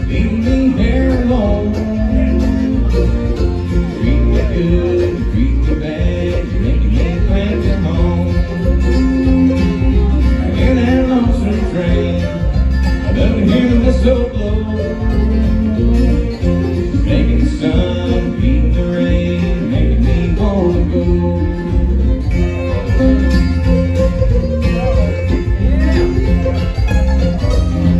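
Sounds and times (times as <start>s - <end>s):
acoustic guitars: 0.0s - 27.9s
bass guitar: 0.0s - 27.9s
fiddle: 0.0s - 27.9s
mandolin: 0.0s - 27.9s.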